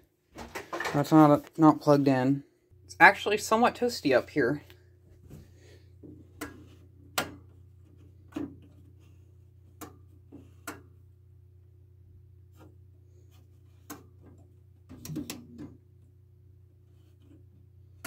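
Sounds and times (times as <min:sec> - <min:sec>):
steady low hum: 0:02.1 - 0:18.0.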